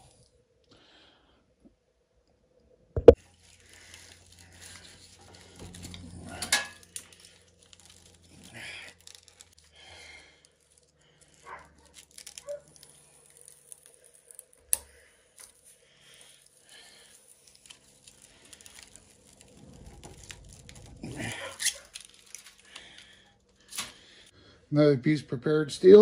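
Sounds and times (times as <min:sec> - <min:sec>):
stiff wire scraping and crinkling: 0:03.1 - 0:24.5.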